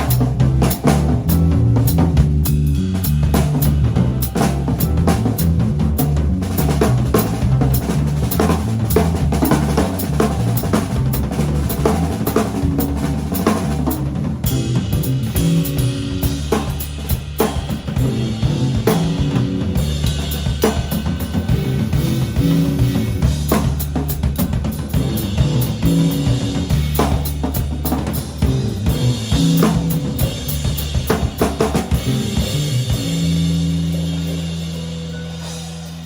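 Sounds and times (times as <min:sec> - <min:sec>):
bass line: 0:00.0 - 0:36.0
drum kit groove: 0:00.0 - 0:36.0.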